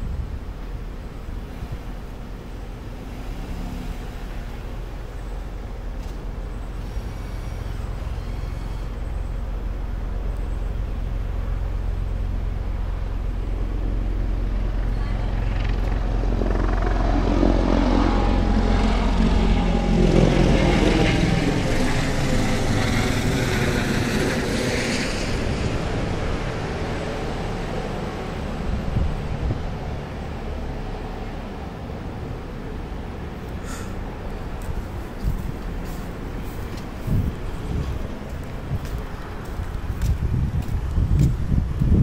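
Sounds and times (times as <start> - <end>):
passing vehicle engine rumble: 0.0 - 42.0.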